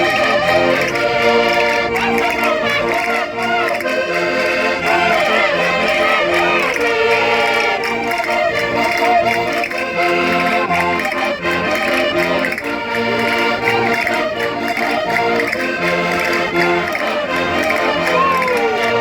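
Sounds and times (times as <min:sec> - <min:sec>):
concertinas playing folk dance tune: 0:00.0 - 0:19.0.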